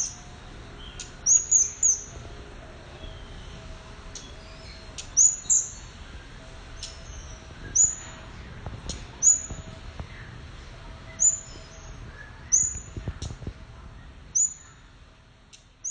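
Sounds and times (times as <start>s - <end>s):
bird chirping: 0.0s - 2.2s, 2.9s - 10.4s, 11.1s - 13.4s, 14.0s - 14.9s, 15.5s - 15.9s
low background rumble: 0.0s - 15.9s.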